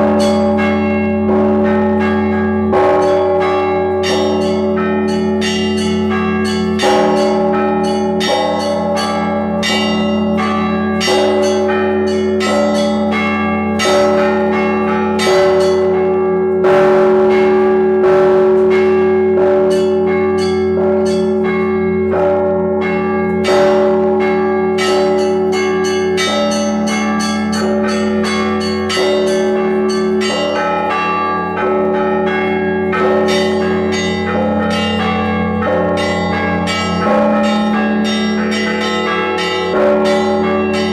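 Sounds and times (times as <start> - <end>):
small bells pealing: 0.0 - 17.5, 18.7 - 40.9
hum of larger bells: 0.0 - 40.9.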